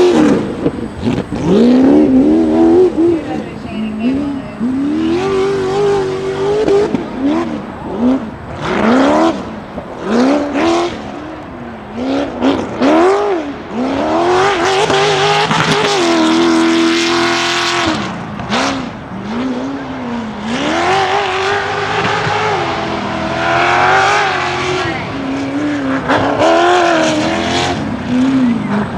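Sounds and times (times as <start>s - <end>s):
buggy engine revving: 0.0s - 28.9s.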